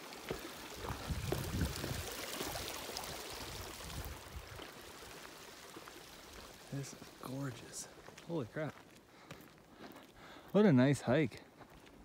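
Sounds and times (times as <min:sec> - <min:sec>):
creek trickling over rocks: 0:00.0 - 0:12.0
footsteps on trail: 0:00.2 - 0:02.6, 0:04.0 - 0:12.0.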